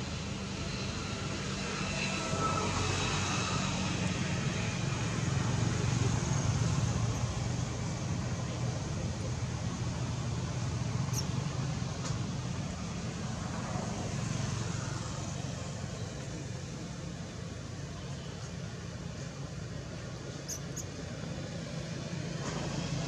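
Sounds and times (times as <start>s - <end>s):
distant engine drone: 0.0s - 23.0s
outdoor background noise: 0.0s - 23.0s.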